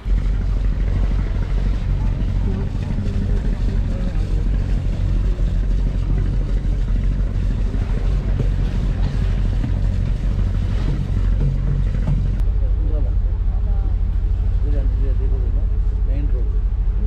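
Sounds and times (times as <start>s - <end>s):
boat engine droning: 0.0s - 17.0s
water washing along hull: 0.0s - 17.0s.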